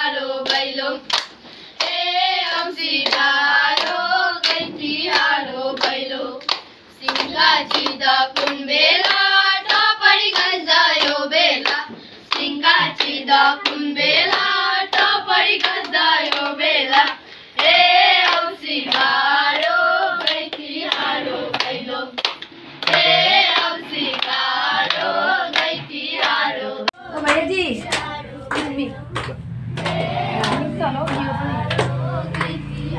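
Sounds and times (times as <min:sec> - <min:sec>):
women and girls singing: 0:00.0 - 0:32.9
hand clapping: 0:00.4 - 0:26.4, 0:27.1 - 0:32.9.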